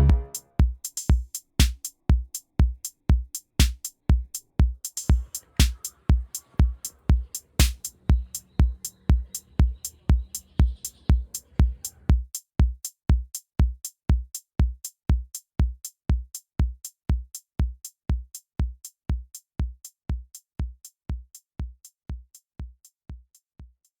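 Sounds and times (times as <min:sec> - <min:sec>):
drum machine beat: 0:00.0 - 0:24.0.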